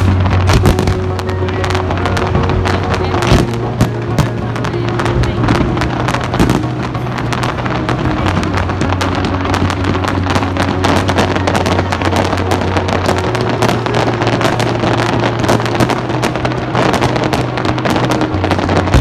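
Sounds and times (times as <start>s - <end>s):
background music with low bass: 0.0s - 19.0s
fireworks cracking and banging: 0.0s - 19.0s.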